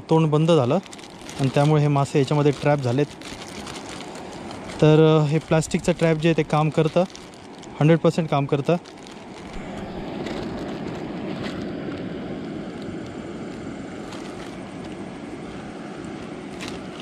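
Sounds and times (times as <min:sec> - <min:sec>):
plastic bag crackling: 0:00.3 - 0:17.0.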